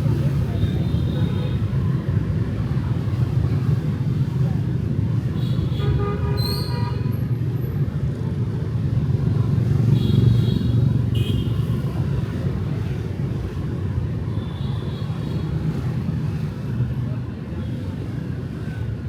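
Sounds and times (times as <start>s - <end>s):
traffic engine and tyre rumble: 0.0s - 19.0s.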